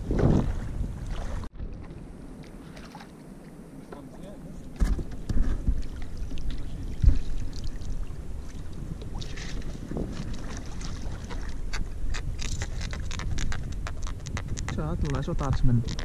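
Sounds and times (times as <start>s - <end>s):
water splashing: 0.0s - 14.3s
wind rumbling on microphone: 0.0s - 16.0s.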